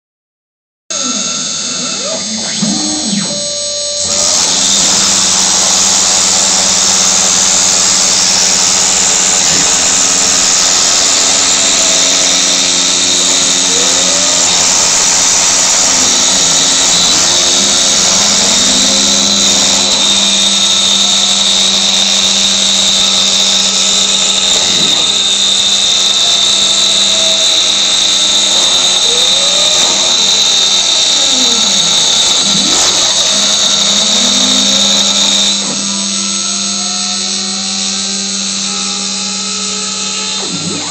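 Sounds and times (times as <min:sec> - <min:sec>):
axis motors humming: 0:00.9 - 0:40.9
router spindle whine: 0:00.9 - 0:40.9
cutting hiss: 0:01.0 - 0:37.8.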